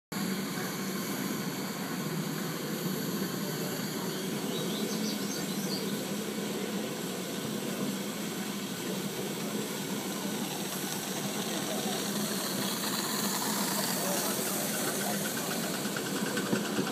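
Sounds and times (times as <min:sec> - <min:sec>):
steam locomotive hissing: 0:00.2 - 0:16.9.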